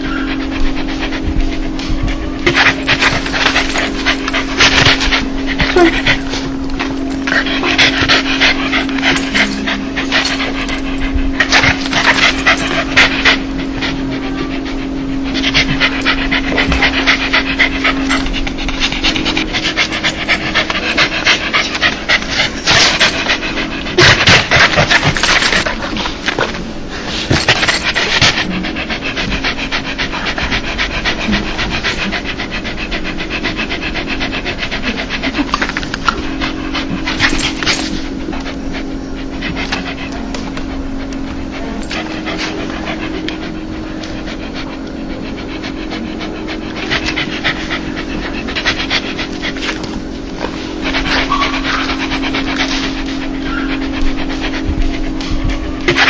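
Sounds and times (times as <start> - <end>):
dog panting fast: 0.0 - 56.0.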